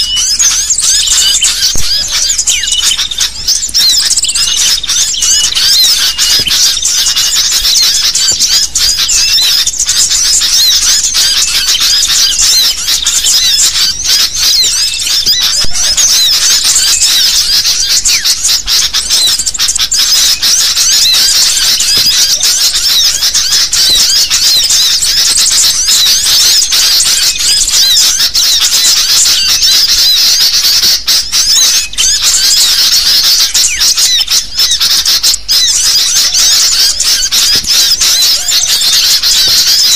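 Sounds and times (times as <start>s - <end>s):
bulbuls calling in chorus: 0.0s - 39.9s.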